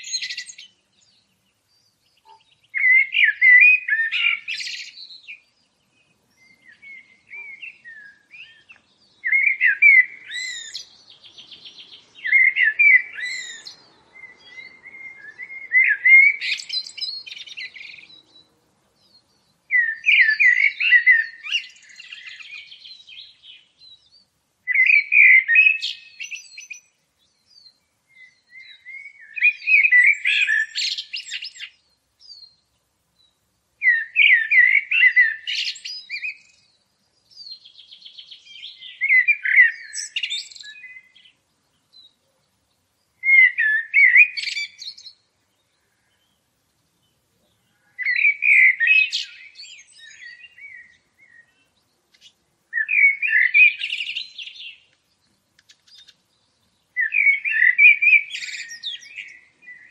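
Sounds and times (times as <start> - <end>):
songbird singing with trills: 0.0 - 59.9.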